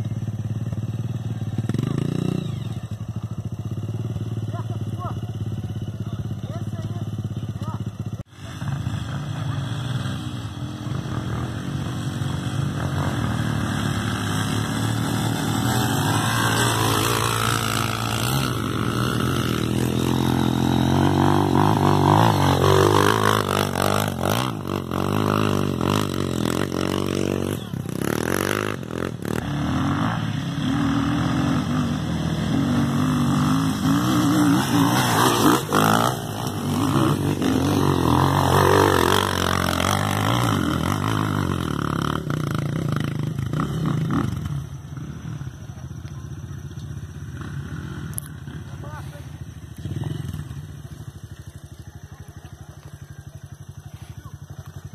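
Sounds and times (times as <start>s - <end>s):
dirt bike engine revving: 0.0s - 45.8s, 46.4s - 51.6s.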